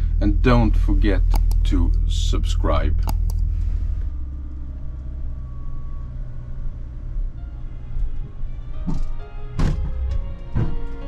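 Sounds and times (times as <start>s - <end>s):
vehicle engine rumble from cab: 0.0s - 10.4s.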